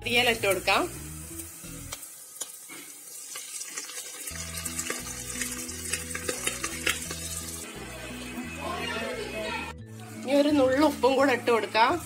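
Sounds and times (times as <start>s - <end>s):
shallots sizzling in a pan: 0.0s - 9.1s, 10.0s - 12.0s.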